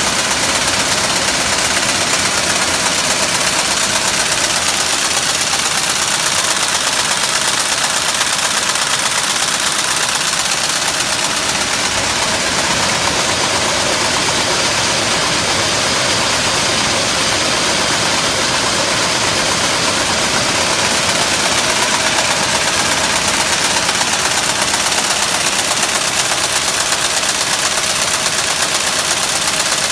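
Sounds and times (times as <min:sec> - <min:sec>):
machine clatter: 0:00.0 - 0:29.9.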